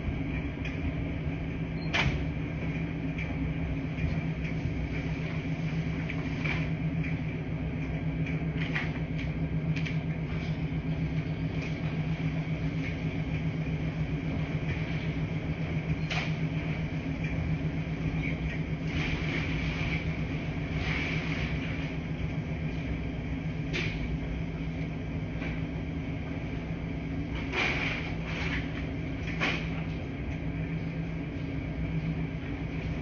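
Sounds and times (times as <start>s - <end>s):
laundry machines humming: 0.0s - 33.0s.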